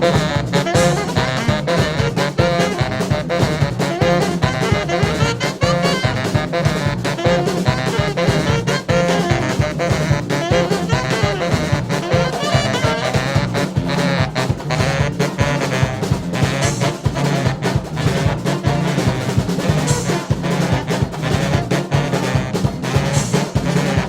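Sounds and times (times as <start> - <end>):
brass band playing: 0.0 - 24.0
quick drum beat: 0.0 - 24.0.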